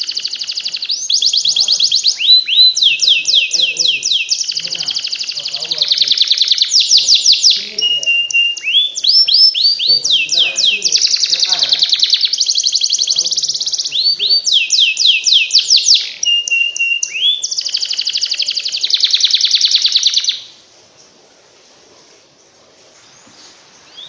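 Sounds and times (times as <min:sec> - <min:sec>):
canary singing: 0:00.0 - 0:21.2, 0:23.0 - 0:24.0.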